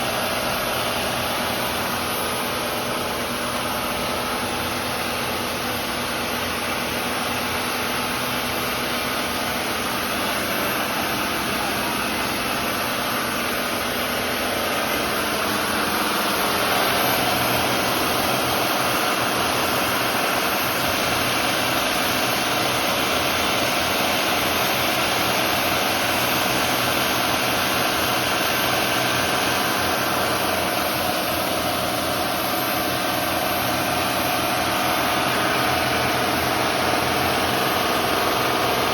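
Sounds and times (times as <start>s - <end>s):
boat diesel engines running: 0.0s - 38.9s.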